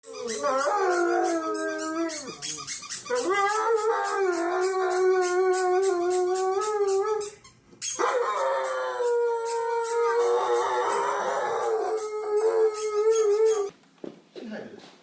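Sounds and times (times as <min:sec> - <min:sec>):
dog howling: 0:00.0 - 0:07.3, 0:08.0 - 0:13.7.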